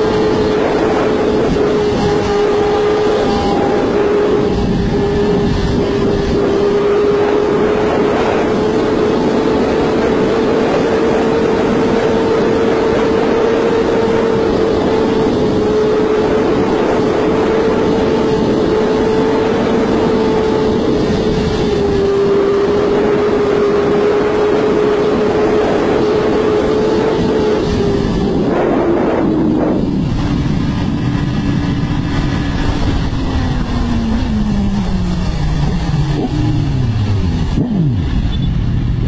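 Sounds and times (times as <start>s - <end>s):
motorcycle engine at high revs: 0.0s - 39.0s
rushing wind noise: 0.0s - 39.0s.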